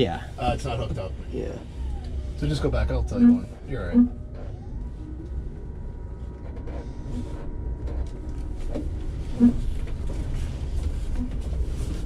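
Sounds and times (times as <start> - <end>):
truck drivetrain and road rumble: 0.0 - 12.0.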